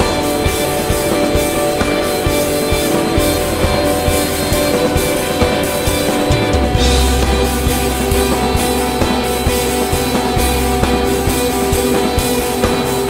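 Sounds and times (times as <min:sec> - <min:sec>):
rock band with guitars and drums: 0:00.0 - 0:13.0.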